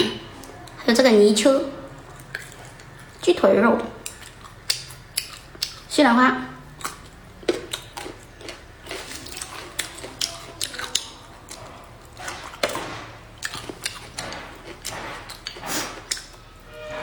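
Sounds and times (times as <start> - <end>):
eating sounds: 1.8 - 16.5.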